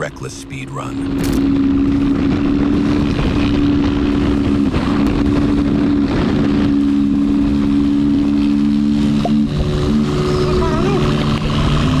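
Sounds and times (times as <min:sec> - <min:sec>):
wind and road noise: 0:00.0 - 0:12.0
motorcycle engine running: 0:00.8 - 0:12.0.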